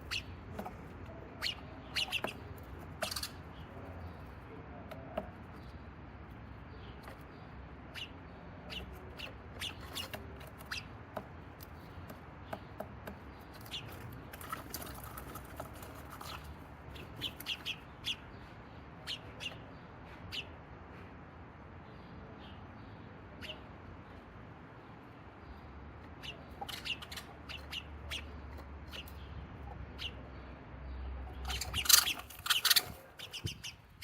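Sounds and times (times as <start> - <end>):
low background noise: 0.0 - 34.0
sparrows chirping: 0.0 - 34.0.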